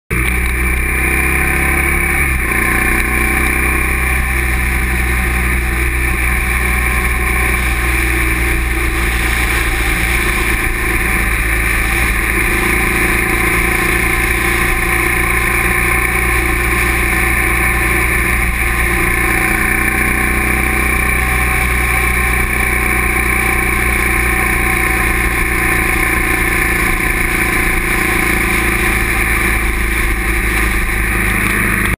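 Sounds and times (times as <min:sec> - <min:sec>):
motorcycle engine cruising: 0:00.1 - 0:31.9.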